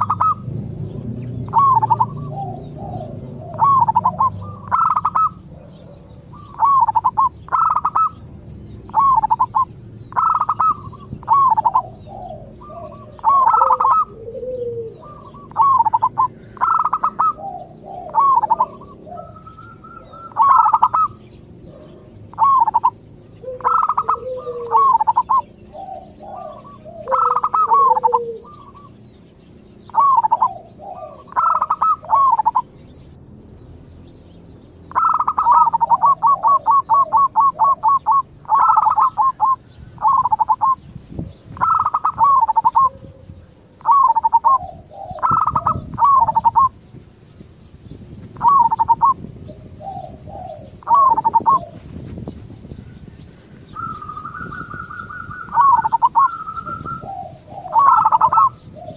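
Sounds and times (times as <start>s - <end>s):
dove cooing: 0.0s - 32.7s, 34.9s - 46.9s, 48.3s - 58.9s.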